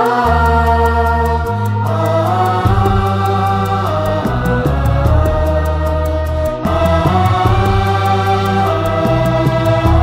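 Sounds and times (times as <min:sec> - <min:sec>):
bass line: 0:00.0 - 0:10.0
light ticking percussion: 0:00.0 - 0:10.0
sustained chords: 0:00.0 - 0:10.0.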